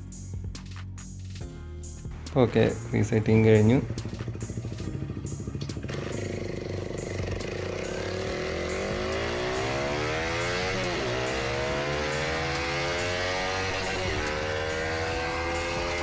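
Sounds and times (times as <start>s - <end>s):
motorcycle engine revving: 2.1s - 16.0s.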